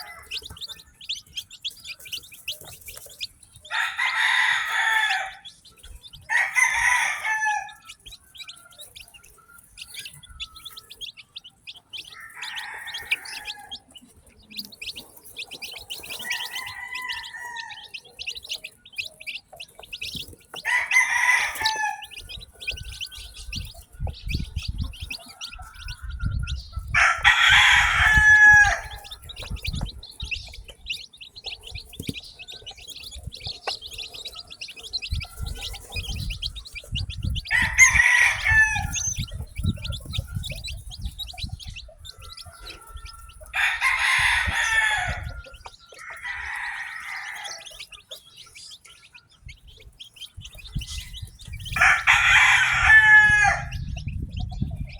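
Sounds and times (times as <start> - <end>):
chicks peeping: 0.0 - 54.9
roosters crowing: 0.0 - 54.9.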